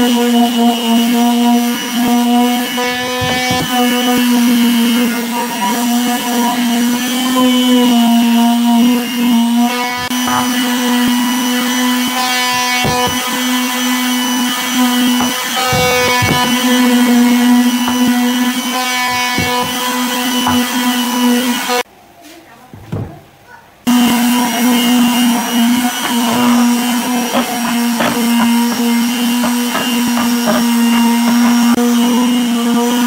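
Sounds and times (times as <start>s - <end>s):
palm sander humming on wood: 0.0s - 21.9s, 23.9s - 33.0s.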